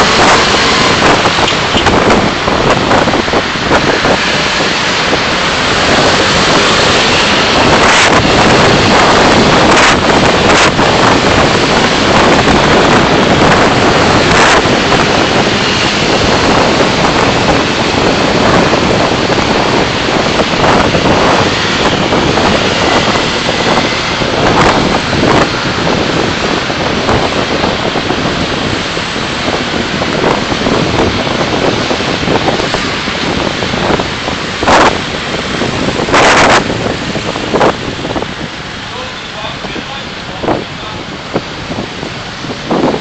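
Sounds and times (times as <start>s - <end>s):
car road and wind noise: 0.0s - 43.0s.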